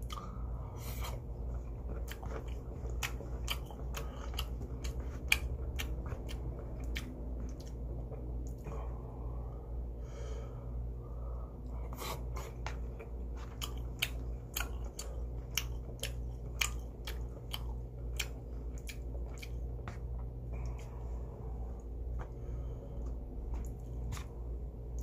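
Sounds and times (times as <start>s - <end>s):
person chewing ribs: 0.0s - 8.9s, 11.6s - 25.0s
steady low hum: 0.0s - 25.0s.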